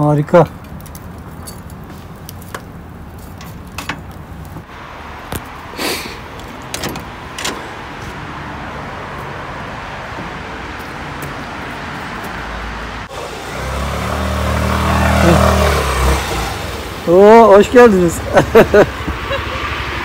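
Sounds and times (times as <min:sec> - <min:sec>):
road traffic: 0:00.0 - 0:20.0
vehicle engine approaching: 0:00.0 - 0:20.0.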